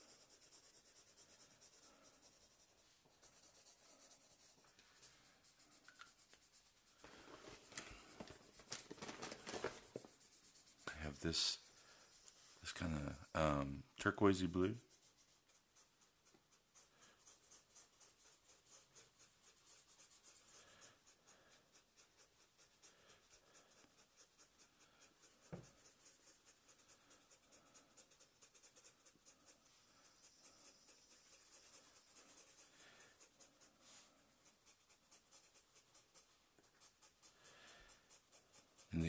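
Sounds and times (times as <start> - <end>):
marker scratching on paper: 0.0 - 39.0.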